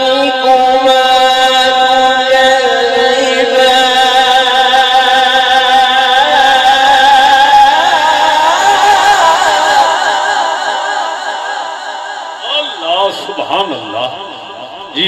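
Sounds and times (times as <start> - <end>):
man reciting melodically: 0.0 - 11.7, 12.3 - 15.0.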